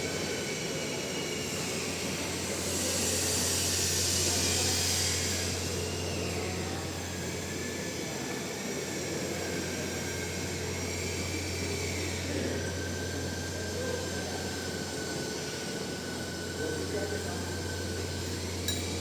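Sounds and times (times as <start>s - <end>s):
metal lathe running: 0.0s - 19.0s.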